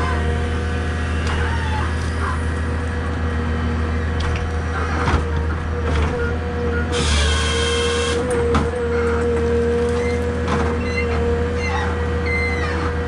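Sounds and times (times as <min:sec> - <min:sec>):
diesel engine running: 0:00.0 - 0:13.0
hydraulic whine: 0:00.0 - 0:13.0.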